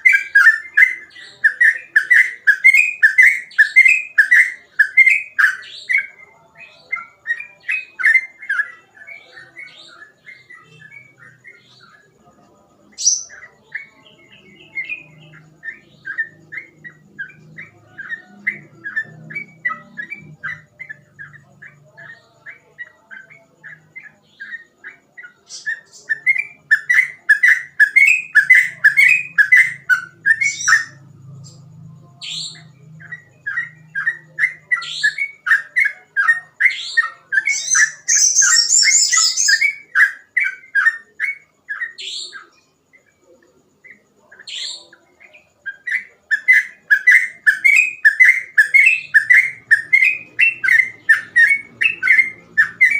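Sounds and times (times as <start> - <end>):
bulbul singing whistled notes: 0.0 - 52.9.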